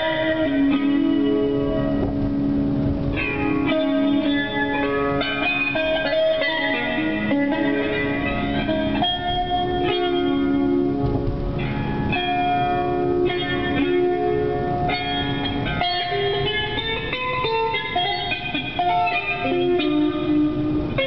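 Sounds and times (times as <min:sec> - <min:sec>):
instrumental blues guitar music: 0:00.0 - 0:21.0.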